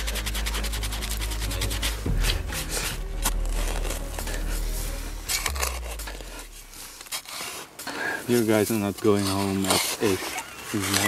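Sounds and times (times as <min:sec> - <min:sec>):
hand brush sweeping sand: 0:00.0 - 0:11.0.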